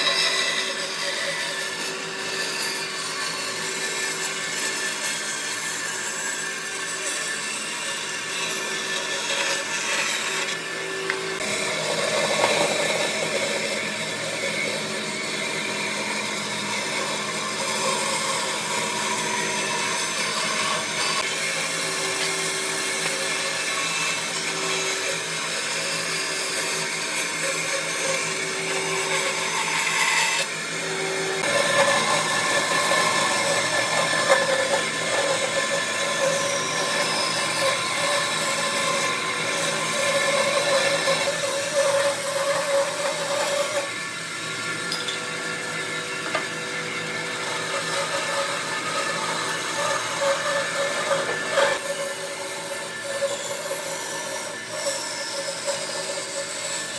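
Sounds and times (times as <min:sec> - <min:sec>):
power tool motor whining on wood: 0:00.0 - 0:56.9.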